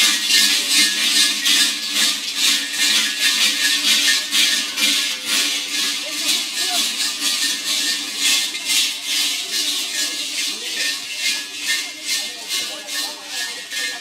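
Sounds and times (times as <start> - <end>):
costume bells clanging rhythmically: 0.0 - 14.0.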